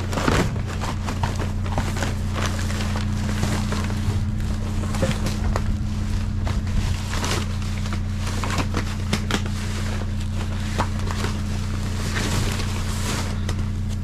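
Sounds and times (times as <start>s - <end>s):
low hum: 0.0s - 14.0s
plastic and paper items rustling: 0.0s - 14.0s.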